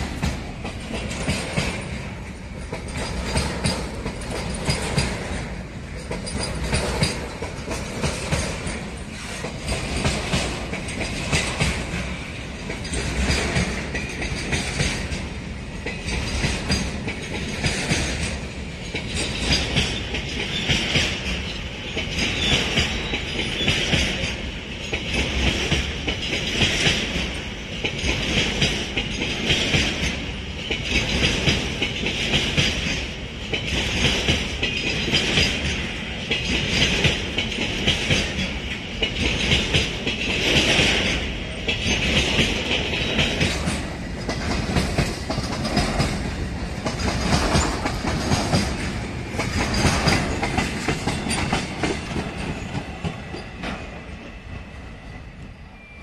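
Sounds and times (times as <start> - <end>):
wheels clicking over rail joints: 0.0 - 54.2.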